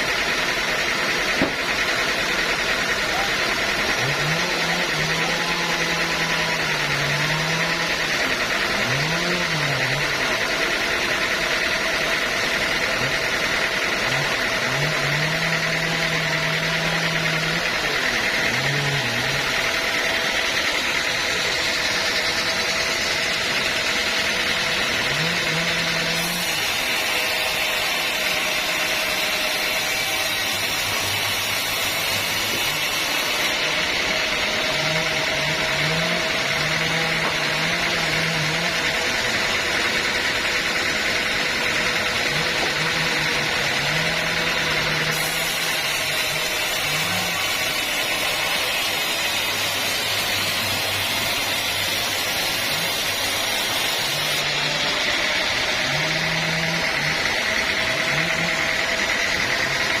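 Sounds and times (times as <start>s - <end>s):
band sawmill droning: 0.0s - 60.0s.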